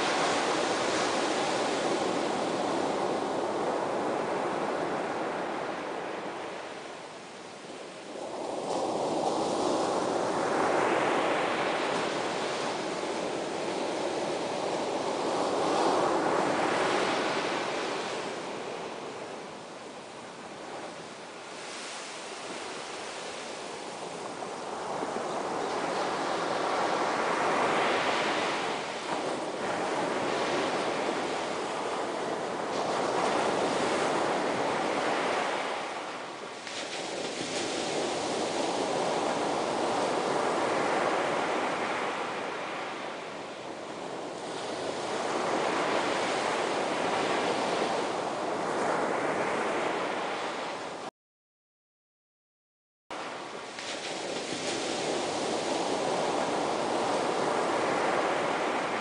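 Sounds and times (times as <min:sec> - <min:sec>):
ocean surf breaking: 0:00.0 - 0:51.1, 0:53.2 - 0:59.0.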